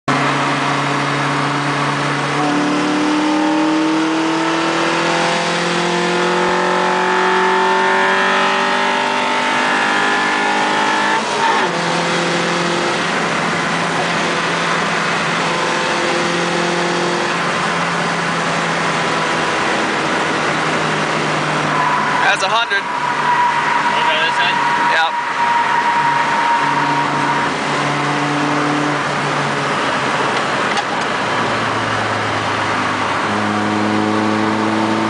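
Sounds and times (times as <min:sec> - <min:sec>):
car engine revving: 0:00.1 - 0:35.0.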